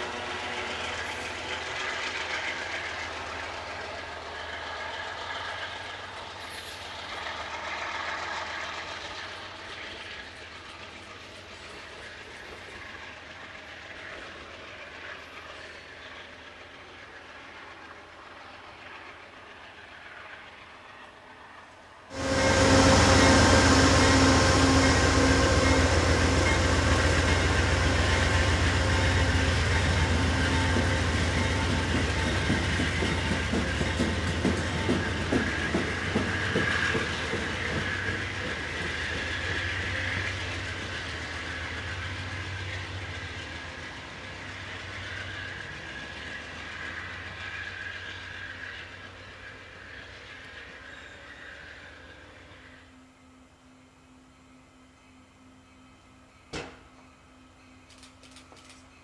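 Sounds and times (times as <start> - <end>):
wheels clicking over rail joints: 0.0 - 20.7, 24.4 - 50.7, 57.8 - 59.0
diesel train engine drone: 0.0 - 59.0.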